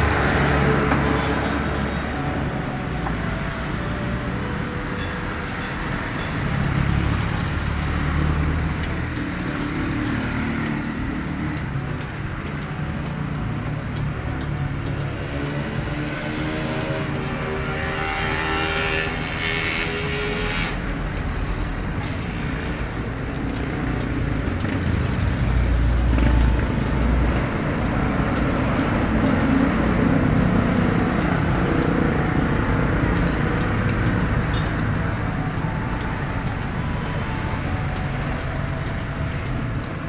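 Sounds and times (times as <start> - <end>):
road traffic rumble and hiss: 0.0 - 40.0
vehicle passing: 0.0 - 40.0.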